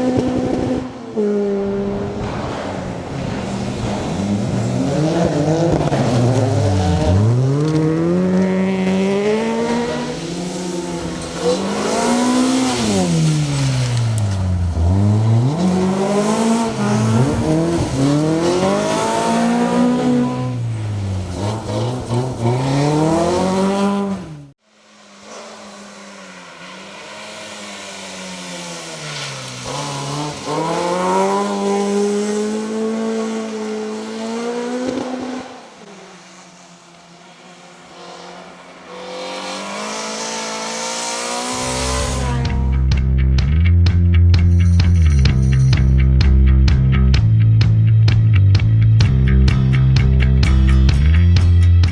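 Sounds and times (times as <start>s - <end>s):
rally car engine revving: 0.0s - 36.2s, 37.8s - 51.9s.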